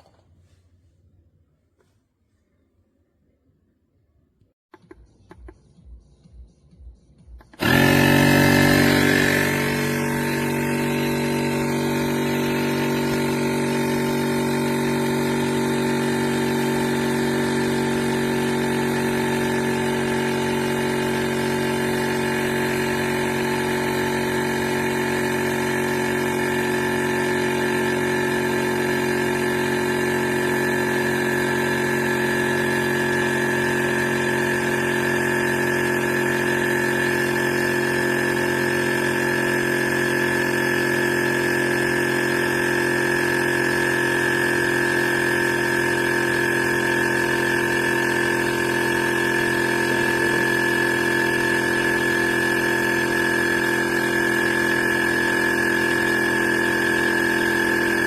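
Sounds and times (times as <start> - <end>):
compressor motor drone: 7.4 - 58.0.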